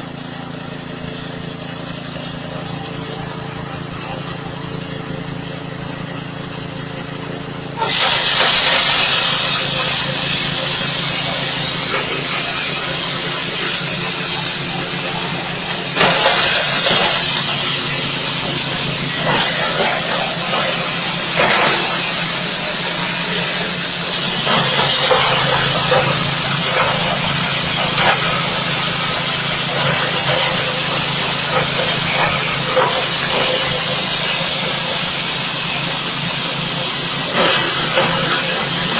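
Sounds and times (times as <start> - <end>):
chopper hissing rush: 0.0 - 38.9
engine hum: 0.0 - 38.9.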